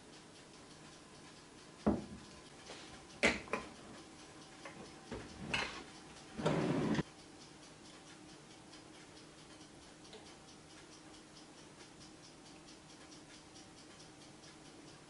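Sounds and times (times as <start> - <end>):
faint regular ticking: 0.0 - 15.0.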